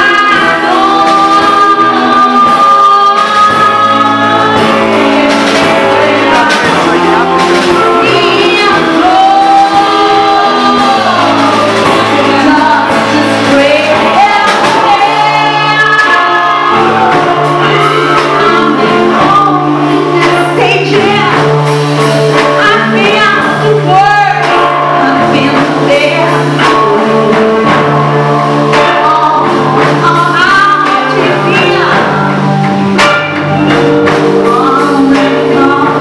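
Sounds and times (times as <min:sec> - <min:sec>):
live rock band playing: 0:00.0 - 0:36.0
woman singing: 0:00.0 - 0:36.0.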